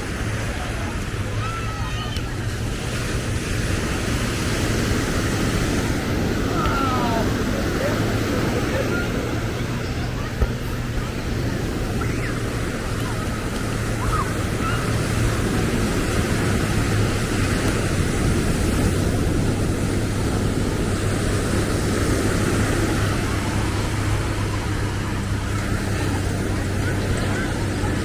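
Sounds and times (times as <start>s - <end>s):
faint voices: 0.0s - 28.0s
low engine hum: 0.0s - 28.0s
passing road traffic: 0.0s - 28.0s
surf: 0.0s - 28.0s.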